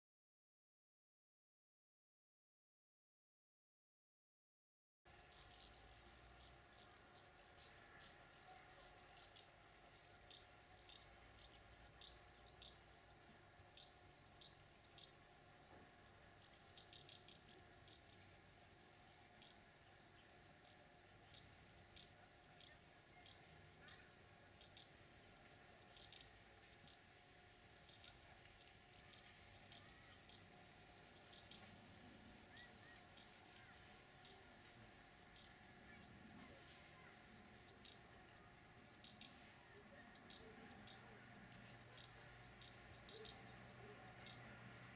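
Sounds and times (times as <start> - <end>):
faint steady hum: 5.1 - 44.9
small birds chirping: 5.1 - 44.9.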